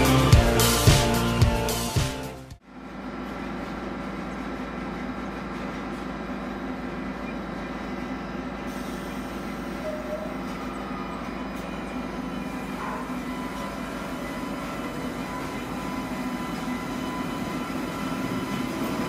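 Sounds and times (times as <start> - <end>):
train running hum: 0.0 - 19.0.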